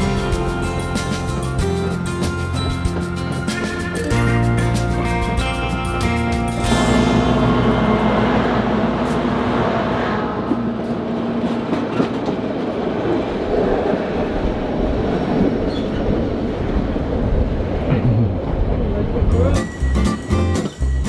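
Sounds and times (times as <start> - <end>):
locomotive engine hum: 0.0 - 21.0
train wheels rumbling and clattering: 0.0 - 21.0.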